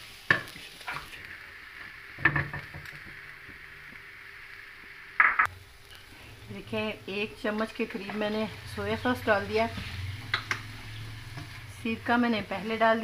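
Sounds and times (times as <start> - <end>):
faint frying hiss: 0.0 - 13.0.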